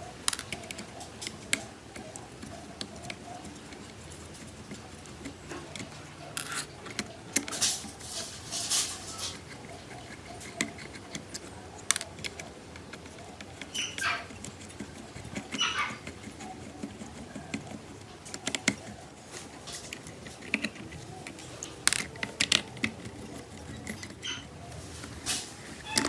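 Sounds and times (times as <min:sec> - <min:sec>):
screwdriver on plastic chassis: 0:00.2 - 0:25.2, 0:25.8 - 0:26.0.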